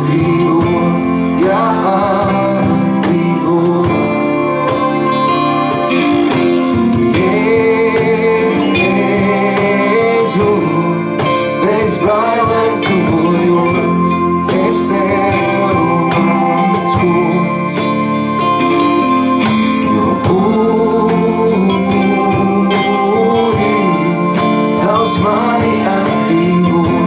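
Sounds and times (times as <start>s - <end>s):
cajon beat: 0.0s - 27.0s
person singing: 0.0s - 27.0s
worship band playing: 0.0s - 27.0s.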